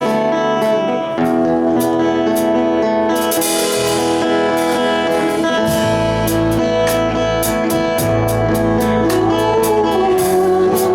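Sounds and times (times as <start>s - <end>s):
guitar band music: 0.0s - 10.9s
bass part: 1.2s - 10.9s.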